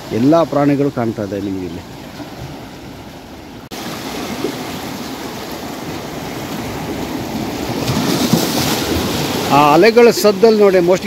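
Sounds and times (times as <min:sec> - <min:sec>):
sea waves washing over rocks: 0:01.8 - 0:11.0.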